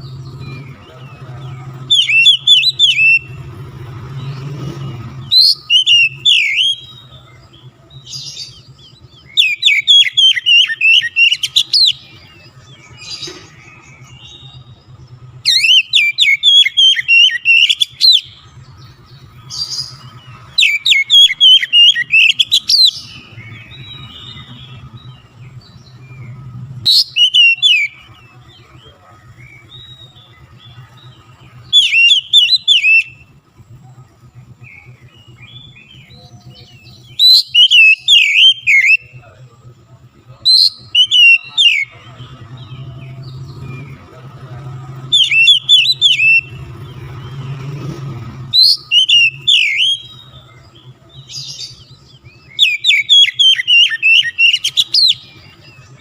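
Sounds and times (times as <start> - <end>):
bird singing whistled phrases: 0.0 - 3.5, 4.2 - 14.8, 15.4 - 18.5, 19.4 - 33.3, 34.6 - 39.3, 40.4 - 44.1, 44.8 - 56.0.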